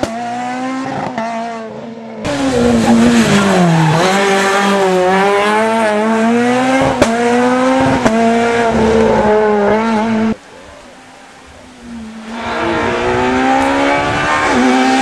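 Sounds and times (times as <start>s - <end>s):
race car engine revving: 0.0s - 10.4s, 11.7s - 15.0s.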